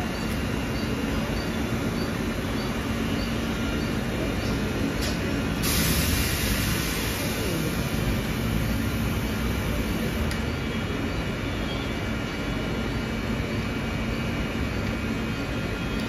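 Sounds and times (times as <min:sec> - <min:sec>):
electric train rumble and hum: 0:00.0 - 0:16.0.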